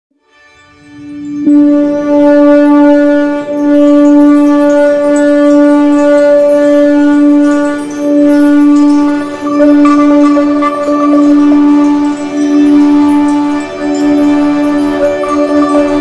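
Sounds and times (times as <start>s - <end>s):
conch shell blowing: 0.6s - 16.0s.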